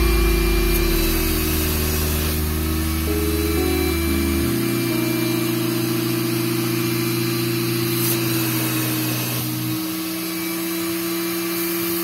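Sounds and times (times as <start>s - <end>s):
vacuum cleaner motor hum: 0.0s - 12.0s.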